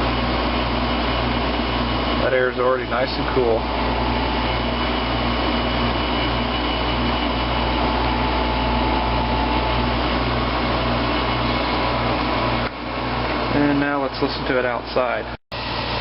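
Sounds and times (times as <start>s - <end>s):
air conditioner running: 0.0s - 16.0s.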